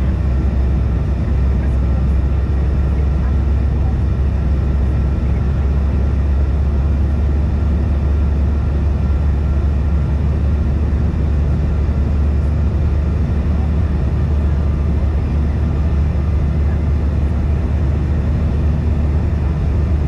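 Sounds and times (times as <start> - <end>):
jet cabin drone: 0.0 - 20.0.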